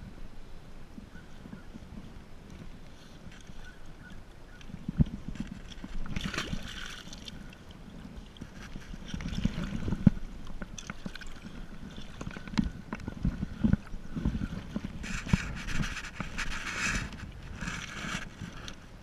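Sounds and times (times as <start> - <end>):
wind rumbling on microphone: 0.0 - 19.0
water splashing and sloshing: 1.5 - 19.0.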